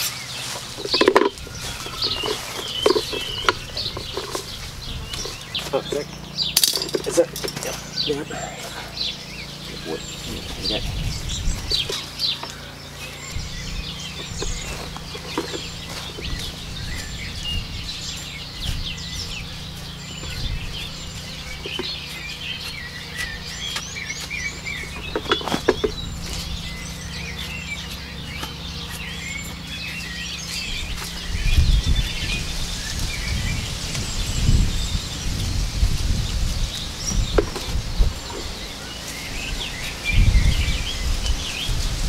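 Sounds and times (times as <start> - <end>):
birds chirping: 0.0 - 42.0
low rumble: 0.0 - 42.0
steady low hum: 0.0 - 42.0.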